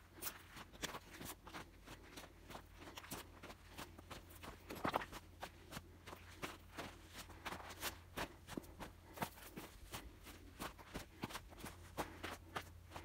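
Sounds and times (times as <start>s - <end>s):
footsteps on gravel: 0.0s - 13.0s.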